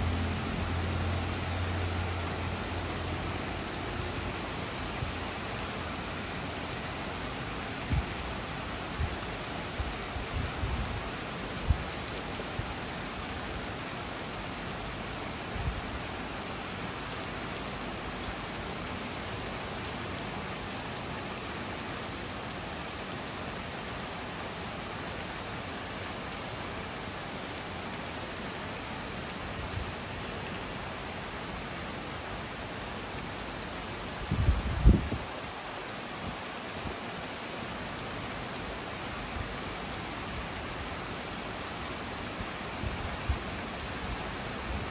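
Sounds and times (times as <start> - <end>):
rain on street and leaves: 0.0 - 44.9.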